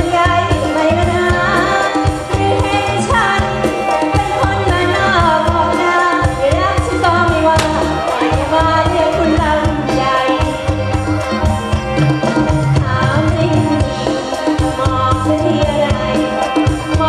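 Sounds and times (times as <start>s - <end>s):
loud amplified band music: 0.0s - 17.0s.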